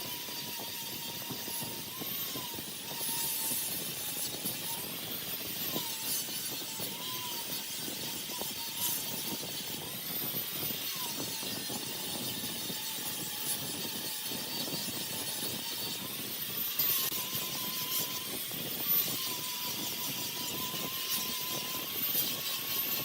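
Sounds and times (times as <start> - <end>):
faint motor whine: 0.0 - 23.0
wood lathe tool cutting hiss: 0.0 - 23.0.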